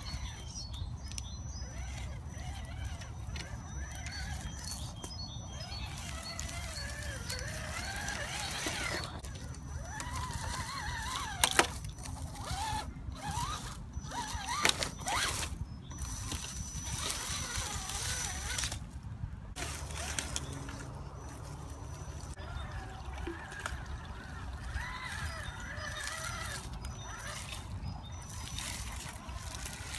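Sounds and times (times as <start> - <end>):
birds calling: 0.0 - 18.7, 19.6 - 29.9
electric motor whining: 0.0 - 18.9, 19.6 - 29.9
twigs cracking under tyres: 0.0 - 22.4, 23.2 - 29.9.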